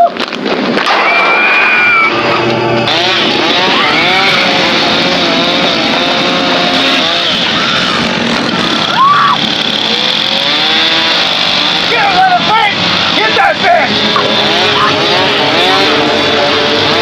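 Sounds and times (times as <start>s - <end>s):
chainsaw running and revving: 2.0s - 17.0s.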